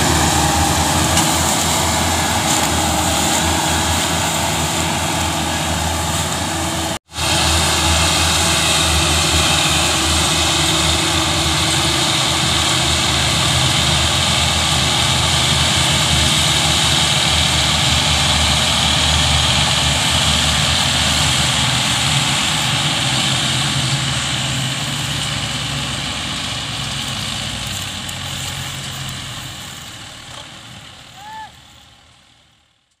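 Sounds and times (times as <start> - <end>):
tractor diesel engines under load: 0.0 - 33.0.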